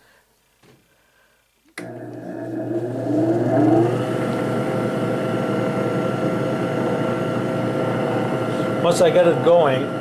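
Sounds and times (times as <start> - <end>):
electric motor whine and hum: 1.8 - 10.0.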